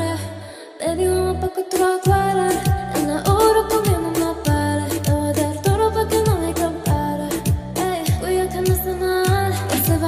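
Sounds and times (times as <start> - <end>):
person singing: 0.0 - 10.0.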